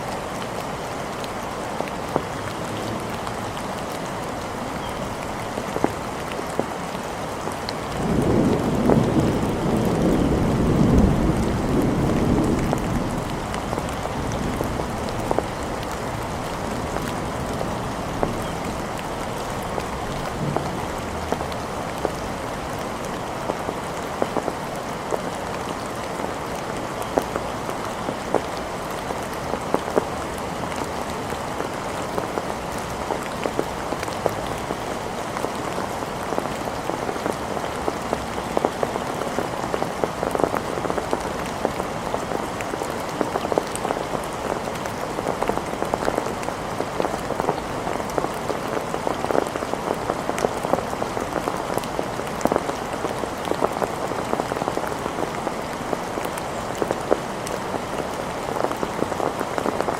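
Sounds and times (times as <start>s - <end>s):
rain drops on hard surface: 0.0s - 59.9s.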